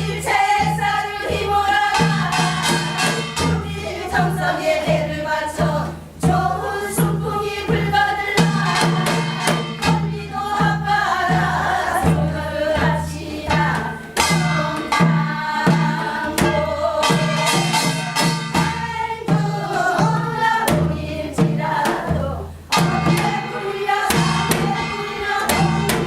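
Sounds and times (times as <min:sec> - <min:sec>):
drum strokes: 0:00.0 - 0:26.0
voices singing folk song: 0:00.0 - 0:26.0.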